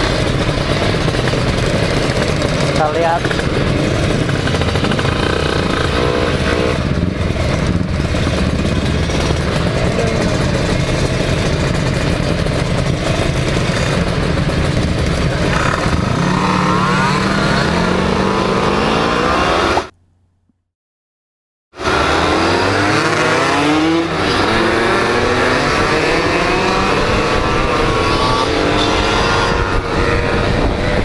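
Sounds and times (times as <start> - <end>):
motorcycle engines revving: 0.0 - 19.9, 21.8 - 31.0.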